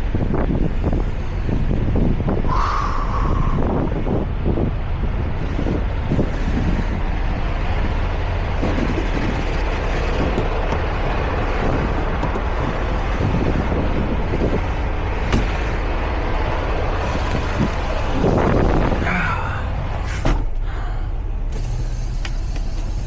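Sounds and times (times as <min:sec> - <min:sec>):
truck engine rumble: 0:00.0 - 0:23.0.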